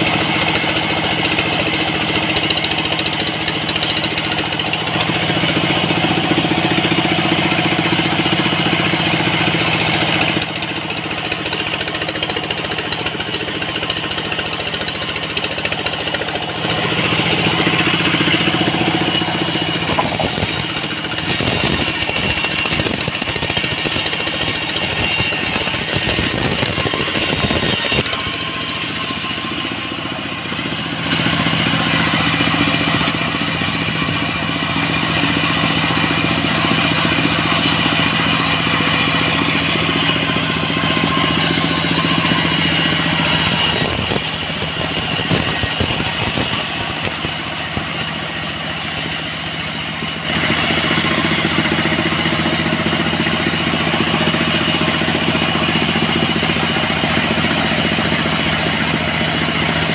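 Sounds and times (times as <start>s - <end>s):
engine hum: 0.0s - 59.9s
saw blade cutting wood: 0.0s - 59.9s.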